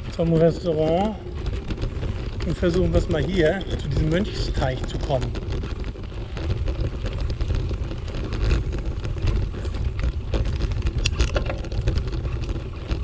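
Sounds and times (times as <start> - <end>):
bicycle tyres on dirt: 0.0 - 13.0
small clicks and rattles: 0.0 - 13.0
wind on microphone: 0.0 - 13.0.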